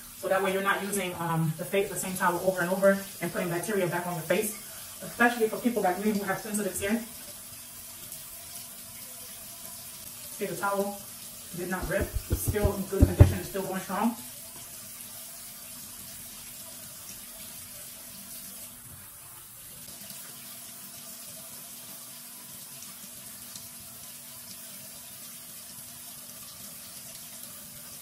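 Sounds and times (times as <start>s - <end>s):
water running from a faucet: 0.0s - 28.0s.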